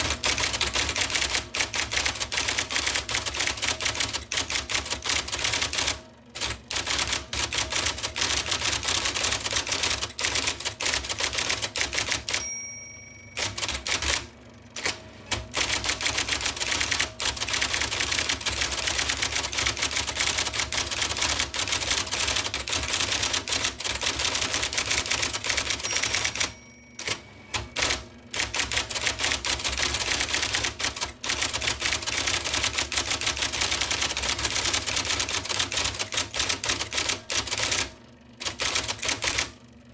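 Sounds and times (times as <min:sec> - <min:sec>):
electric typewriter typing fast: 0:00.0 - 0:12.6, 0:13.2 - 0:39.6.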